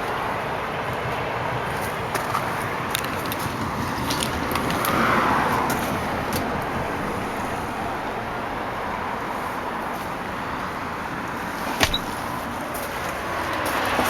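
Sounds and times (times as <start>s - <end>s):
motor vehicle noise: 0.0s - 14.0s.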